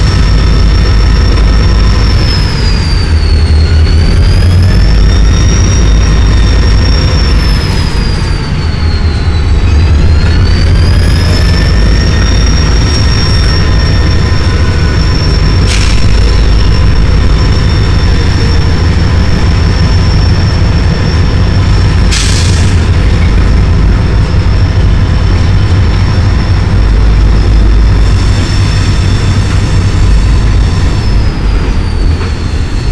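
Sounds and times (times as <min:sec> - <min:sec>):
high squeal: 0:00.0 - 0:32.9
train wheels rumbling: 0:00.0 - 0:32.9.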